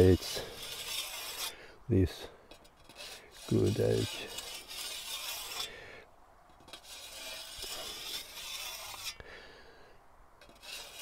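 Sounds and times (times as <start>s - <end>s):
honing wheel scraping blade: 0.0s - 5.8s, 6.5s - 9.2s, 10.4s - 11.0s.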